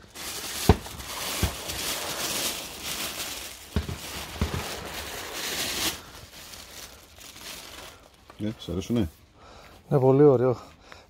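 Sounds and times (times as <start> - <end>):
plastic wrapping crinkling: 0.0 - 9.0.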